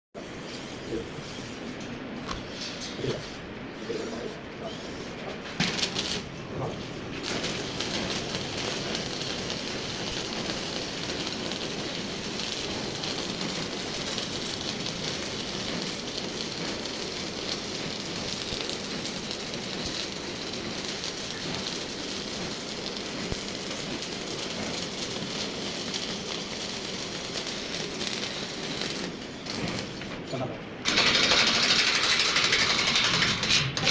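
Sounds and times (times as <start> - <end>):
welding arc crackling: 5.5 - 6.4, 7.1 - 33.9.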